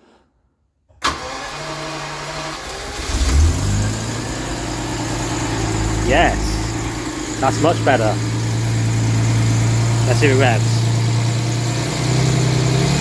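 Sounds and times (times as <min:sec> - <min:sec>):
car engine starting and idling: 0:01.0 - 0:13.0.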